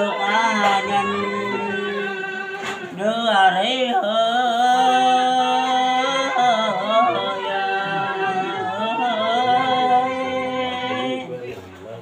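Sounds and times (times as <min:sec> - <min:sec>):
man chanting: 0:00.0 - 0:11.7.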